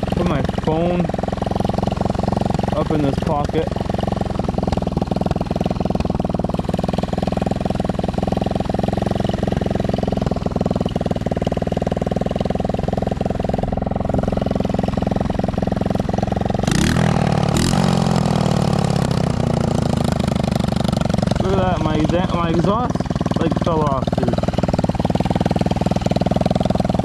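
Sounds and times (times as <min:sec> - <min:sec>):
atv engine running and revving: 0:00.0 - 0:27.0.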